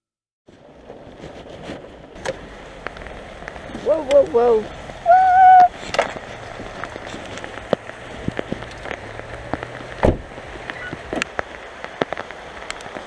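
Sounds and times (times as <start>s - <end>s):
heavy rain pouring: 0.5s - 13.0s.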